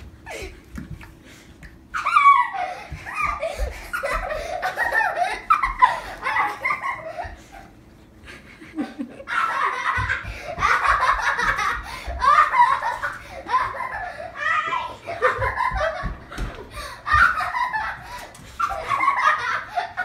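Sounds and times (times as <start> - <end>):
child giggling: 2.0 - 7.8, 8.4 - 20.0.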